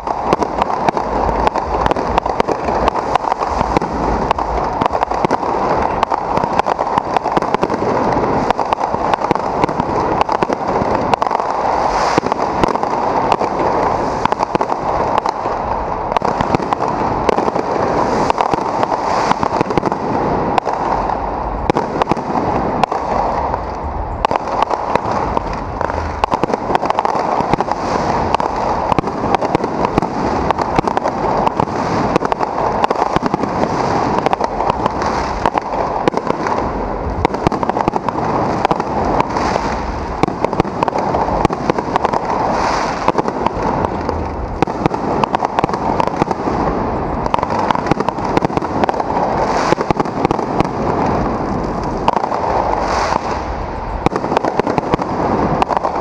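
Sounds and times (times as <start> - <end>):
fireworks popping and crackling: 0.0 - 56.0
loud firework bursts: 0.0 - 56.0.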